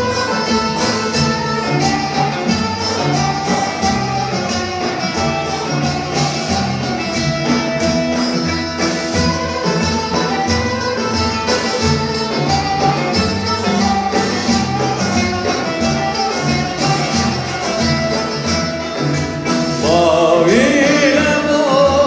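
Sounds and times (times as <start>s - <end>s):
melodic instruments playing: 0.0s - 22.0s
steady percussion beat: 0.0s - 22.0s.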